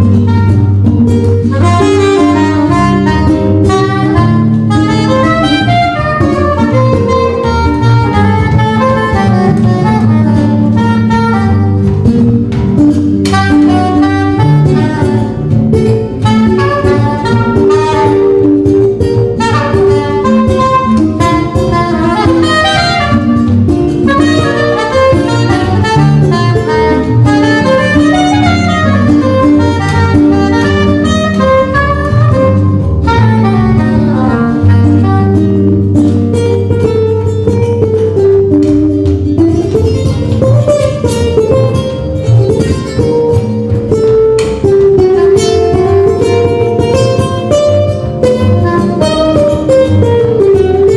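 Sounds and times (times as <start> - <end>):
music trio playing live: 0.0 - 50.9.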